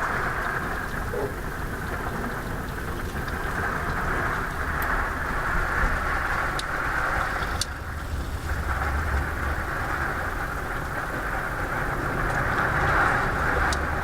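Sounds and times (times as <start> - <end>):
wind and rain roar: 0.0 - 14.0.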